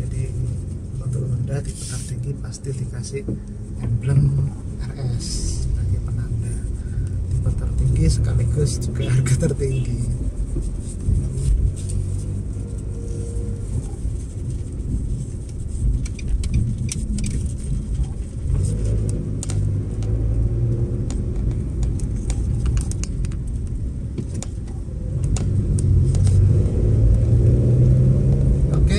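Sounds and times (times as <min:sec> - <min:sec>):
car engine and road noise: 0:00.0 - 0:28.9.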